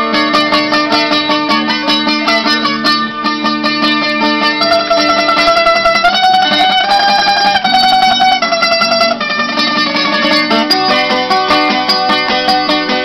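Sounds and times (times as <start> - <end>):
acoustic guitars playing: 0.0 - 13.0.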